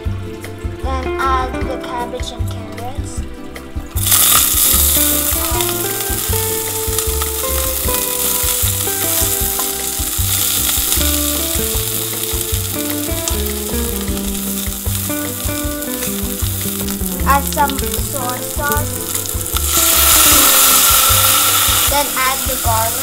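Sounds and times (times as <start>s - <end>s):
vegetables sizzling in hot oil: 4.0s - 23.0s.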